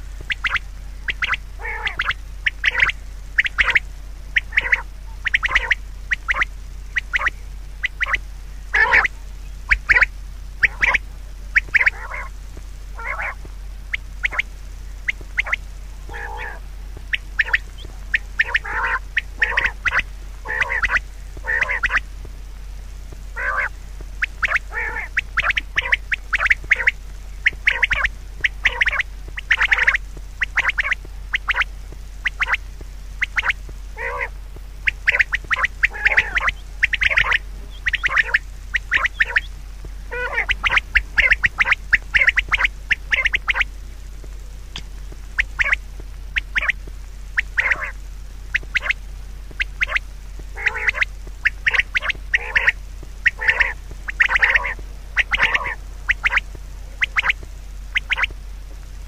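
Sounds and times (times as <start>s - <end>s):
birds giving harsh calls: 0.0s - 43.8s, 44.8s - 58.4s
steady low hum: 0.0s - 59.0s.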